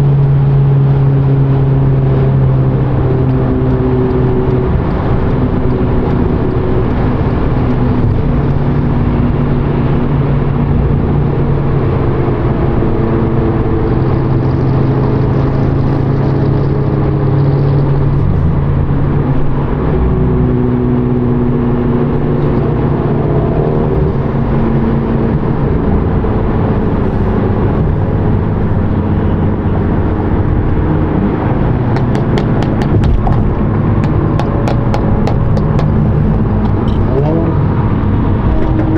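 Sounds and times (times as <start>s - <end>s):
car engine cruising: 0.0s - 38.9s
road noise: 0.0s - 38.9s.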